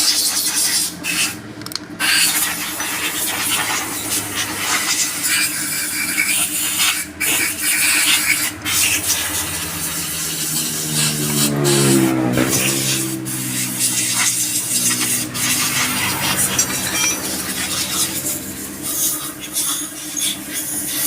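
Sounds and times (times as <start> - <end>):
hissing spray: 2.0 - 21.0.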